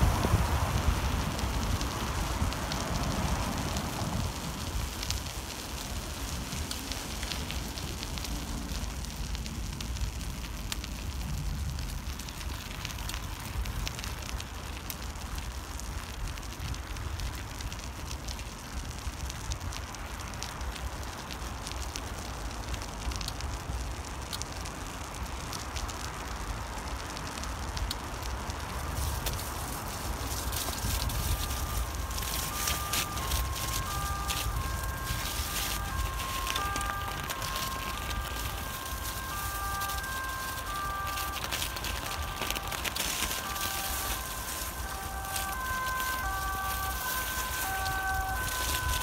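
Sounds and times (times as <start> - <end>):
bicycle tyre noise: 0.0 - 49.0
wind rumbling on microphone: 0.0 - 49.0
faint crackling clicks: 0.3 - 49.0.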